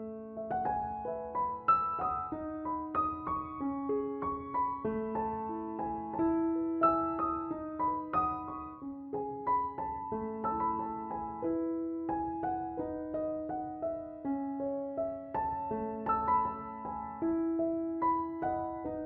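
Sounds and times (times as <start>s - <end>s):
slow solo piano melody: 0.0s - 19.0s.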